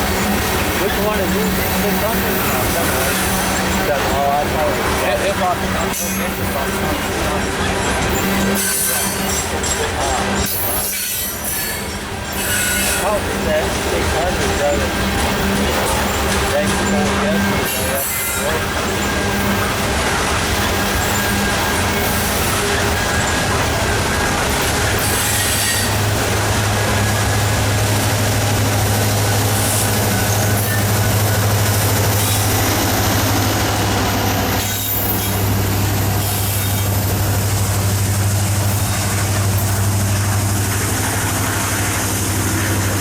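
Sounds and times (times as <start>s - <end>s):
freight train wheels rumbling on rail: 0.0s - 43.0s.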